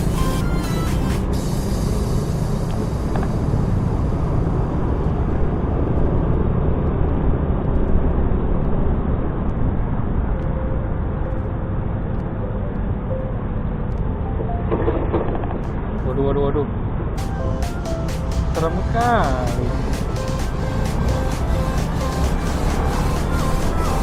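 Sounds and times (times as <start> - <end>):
wind and road noise: 0.0 - 24.0.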